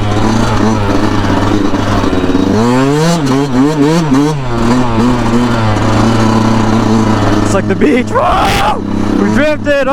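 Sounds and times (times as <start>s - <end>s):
dirt bike engine revving: 0.0s - 9.9s.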